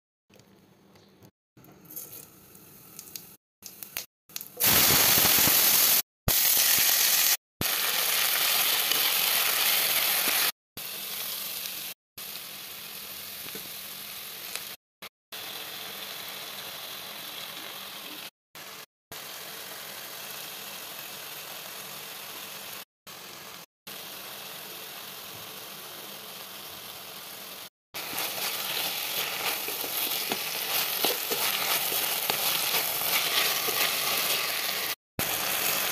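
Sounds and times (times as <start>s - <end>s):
vegetables sizzling in hot oil: 4.6s - 14.8s, 15.4s - 35.9s.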